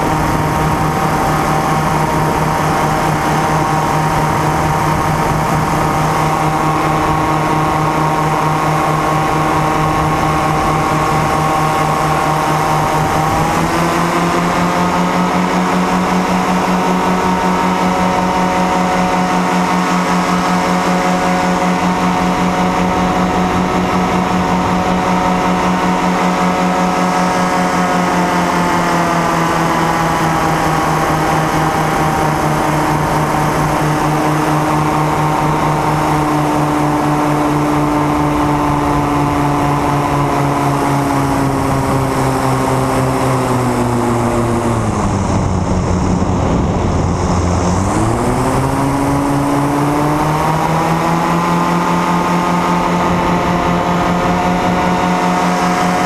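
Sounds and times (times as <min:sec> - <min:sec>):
small aircraft engine and propeller: 0:00.0 - 0:56.0.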